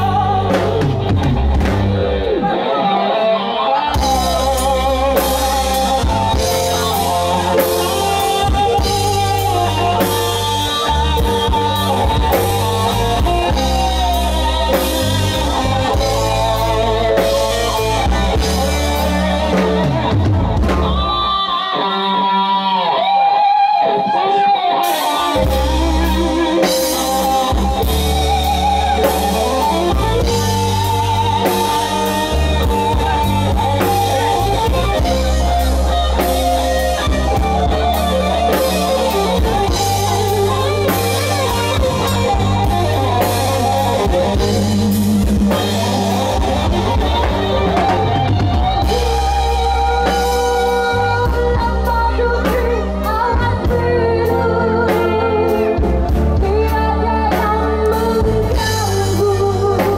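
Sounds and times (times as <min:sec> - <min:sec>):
drum kit: 0:00.0 - 0:23.8, 0:24.4 - 0:59.9
electric bass line: 0:00.0 - 0:59.9
electric guitar: 0:00.0 - 0:59.9.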